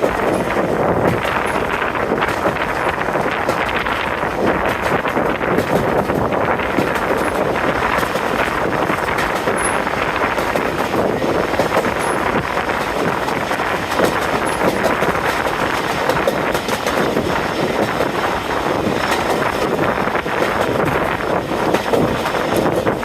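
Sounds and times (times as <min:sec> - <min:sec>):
train running rumble: 0:00.0 - 0:23.0
wind buffeting microphone: 0:00.0 - 0:23.0.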